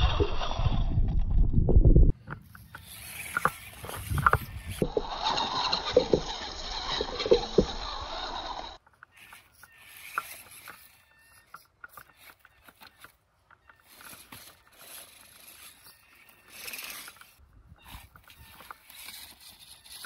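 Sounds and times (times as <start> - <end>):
tyres clicking and scraping on rock: 2.1 - 20.0.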